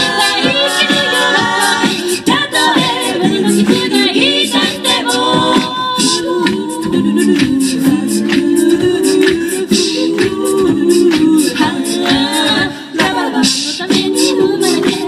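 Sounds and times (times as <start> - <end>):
a cappella group singing harmony: 0.0 - 15.0
beatboxing vocal percussion: 0.0 - 15.0.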